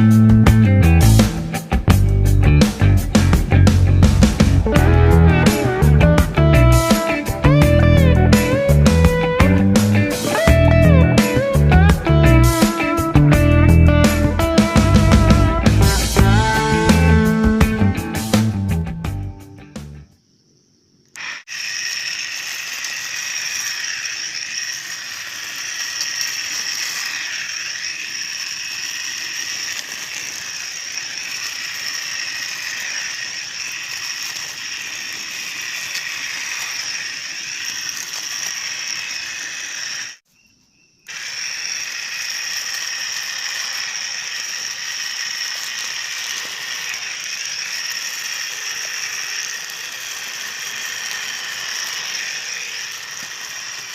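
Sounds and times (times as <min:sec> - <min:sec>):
electric grass cutter whining: 0:00.0 - 0:20.0, 0:21.1 - 0:40.3, 0:41.0 - 0:53.9.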